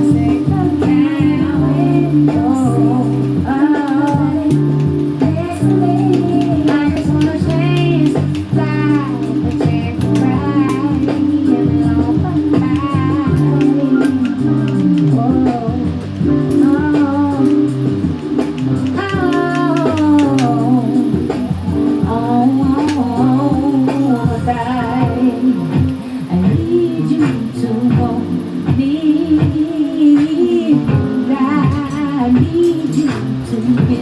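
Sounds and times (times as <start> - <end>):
bass: 0.0 - 34.0
guitar: 0.0 - 34.0
person singing: 0.0 - 34.0.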